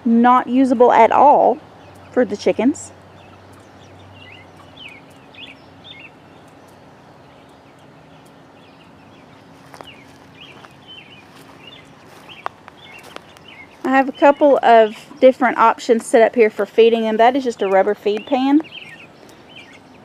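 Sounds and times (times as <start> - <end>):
faint steady hum: 0.0 - 20.0
chicks peeping: 0.8 - 20.0.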